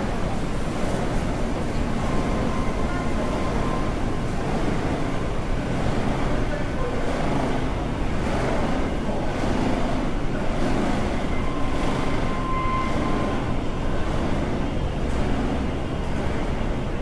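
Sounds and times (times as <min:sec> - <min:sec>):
shopping street ambience rumble: 0:00.0 - 0:17.0.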